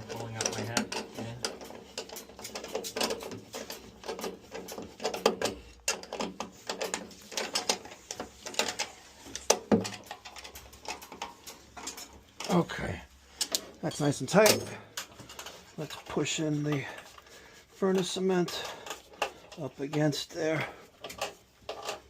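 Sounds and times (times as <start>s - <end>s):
hand tools clicking and clanking: 0.0s - 22.0s.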